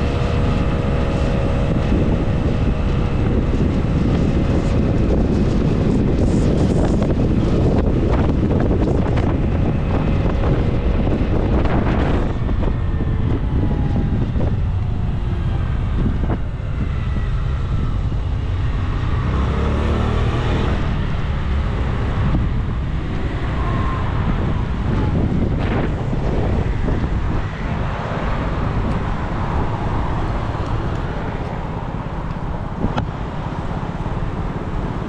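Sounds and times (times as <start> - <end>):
faint passing traffic: 0.0 - 35.0
wind buffeting microphone: 0.0 - 35.0.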